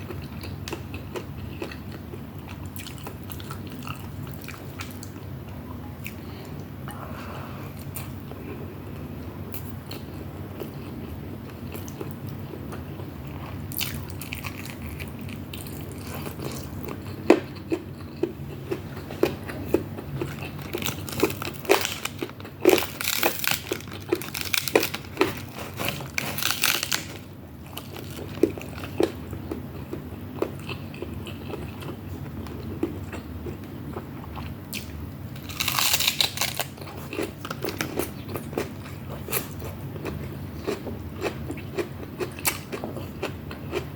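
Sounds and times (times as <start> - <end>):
food crunching: 0.0 - 6.2, 9.6 - 43.9
person chewing food: 0.0 - 7.2, 7.8 - 43.9.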